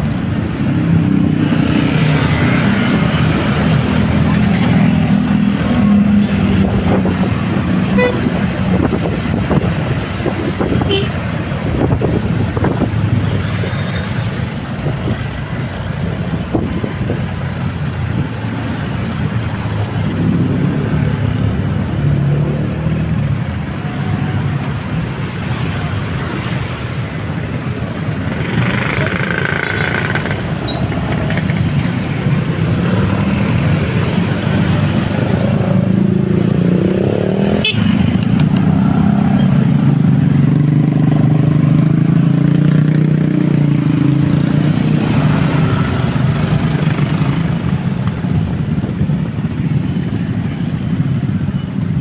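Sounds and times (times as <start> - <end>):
road traffic: 0.0 - 52.0.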